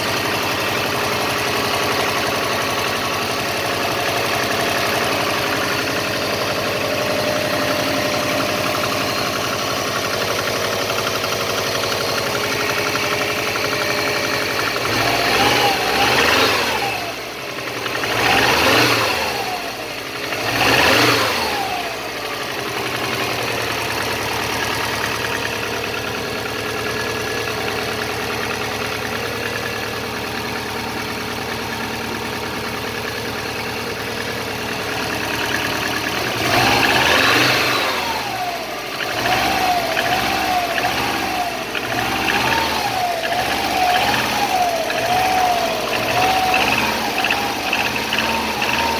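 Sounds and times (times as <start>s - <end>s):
car engine idling: 0.0s - 48.9s
engine revving: 0.0s - 48.9s.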